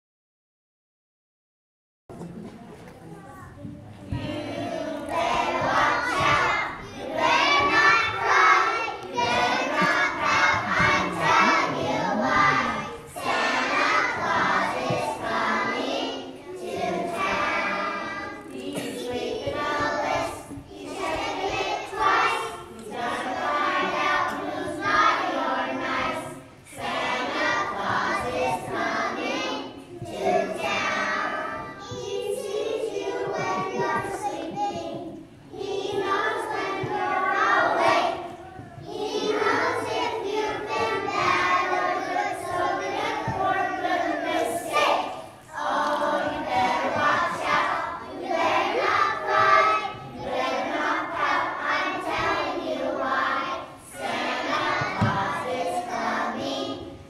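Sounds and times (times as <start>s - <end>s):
children singing together: 3.4s - 57.0s.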